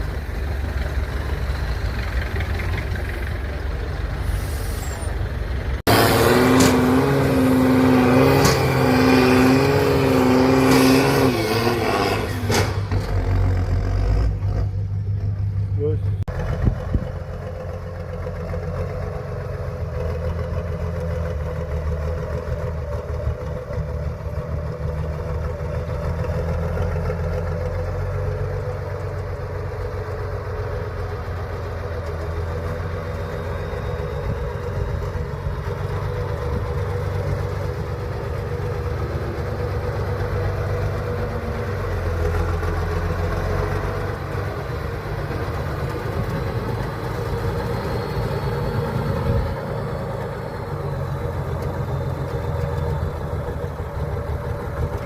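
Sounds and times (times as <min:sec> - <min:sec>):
truck engine idling: 0:00.0 - 0:10.6, 0:12.8 - 0:55.0.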